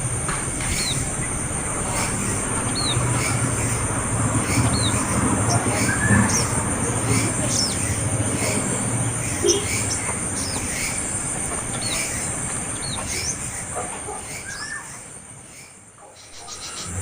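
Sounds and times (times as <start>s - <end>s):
fledgling begging chirps: 0.0s - 17.0s.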